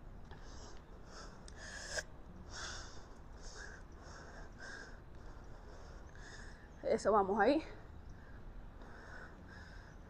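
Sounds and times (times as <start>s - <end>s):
woman breathing hard: 0.4s - 6.8s, 8.2s - 10.0s.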